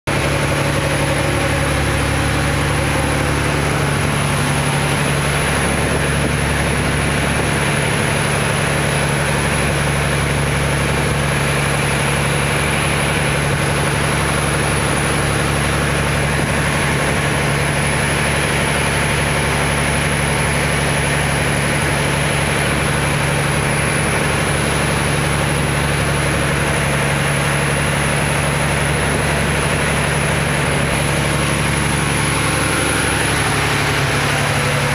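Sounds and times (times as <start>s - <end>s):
boat engine droning: 0.1s - 34.9s
rush of wind and water: 0.1s - 34.9s.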